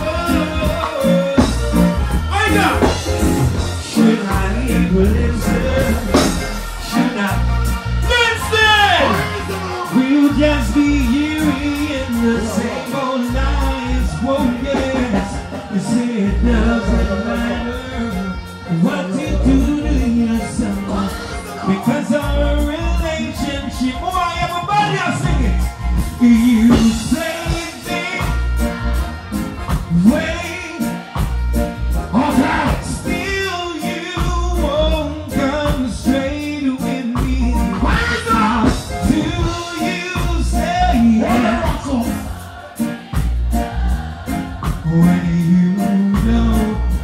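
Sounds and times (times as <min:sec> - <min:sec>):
man singing into microphone: 0:00.0 - 0:29.0, 0:29.7 - 0:31.2, 0:31.8 - 0:42.3, 0:44.7 - 0:47.0
music with heavy bass: 0:00.0 - 0:47.0.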